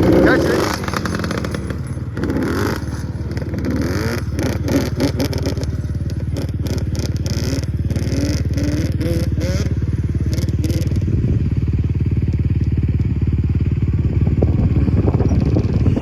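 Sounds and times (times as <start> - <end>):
two-stroke engine running: 0.0 - 16.0.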